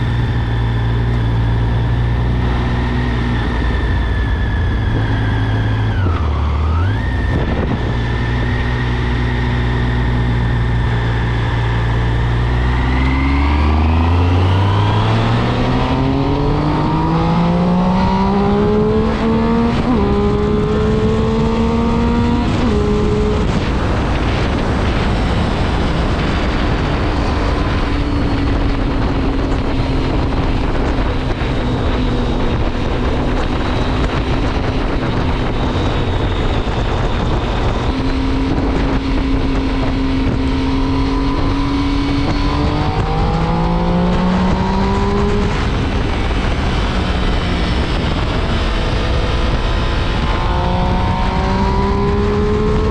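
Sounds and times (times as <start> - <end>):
motorcycle engine revving: 0.0 - 52.9
wind rush: 0.0 - 52.9.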